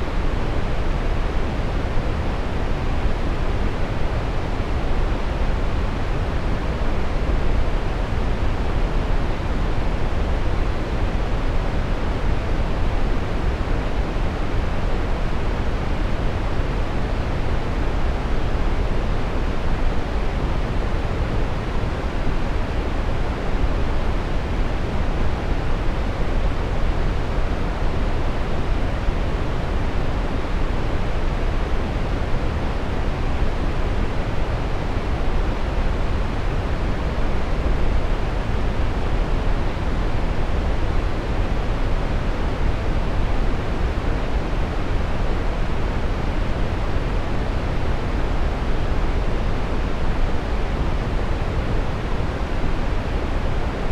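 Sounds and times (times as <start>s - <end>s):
brown noise rushing hiss: 0.0s - 53.9s.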